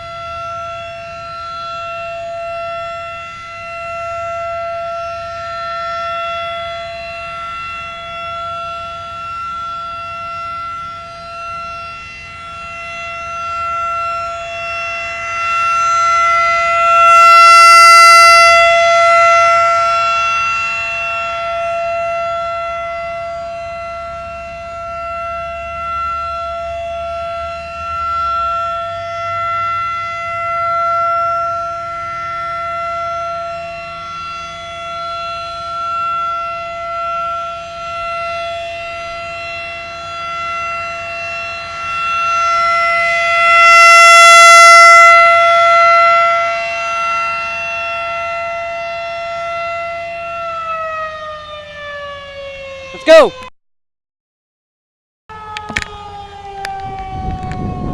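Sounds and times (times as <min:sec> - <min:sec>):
warning siren steady tone: 0:00.0 - 0:53.5, 0:55.3 - 0:57.9.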